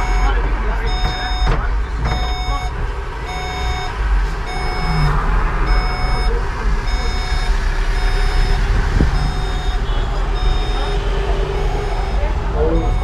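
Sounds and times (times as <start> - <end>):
bus engine rumble: 0.0 - 13.0
electronic warning beeps: 0.0 - 13.0.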